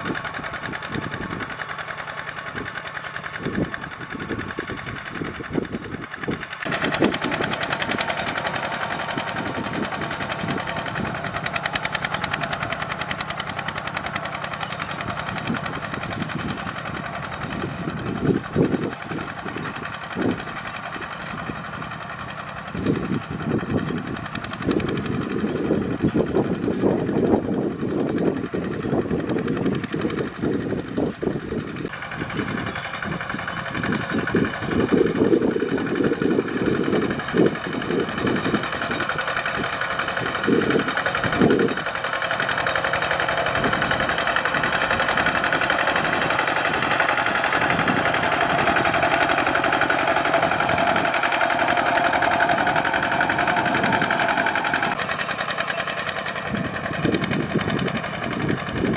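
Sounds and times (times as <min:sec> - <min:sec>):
diesel tractor engine under load: 0:00.0 - 0:58.9.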